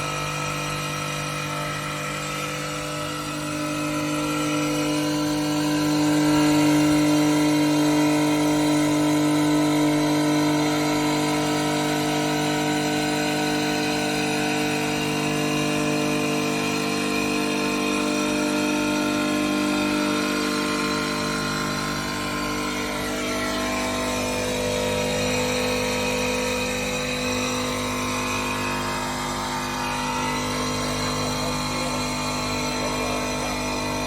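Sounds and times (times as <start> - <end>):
stone-cutting machine spindle hum: 0.0 - 34.0.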